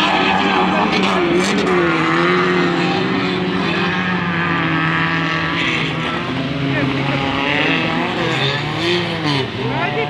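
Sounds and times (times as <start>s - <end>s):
race car engines revving: 0.0s - 10.0s.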